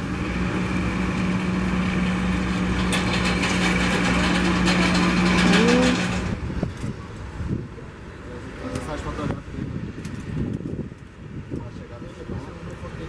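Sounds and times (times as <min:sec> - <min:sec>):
engine humming: 0:00.0 - 0:11.6.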